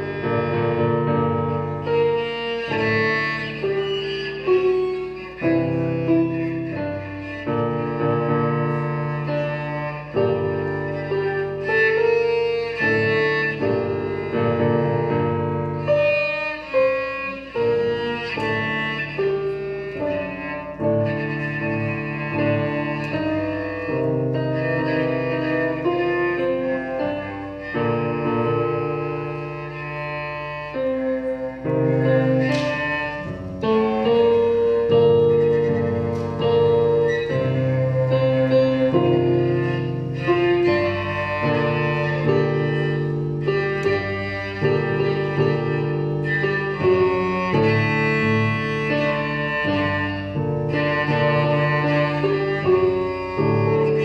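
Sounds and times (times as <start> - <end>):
electric cello bowed melody: 0.0 - 54.0.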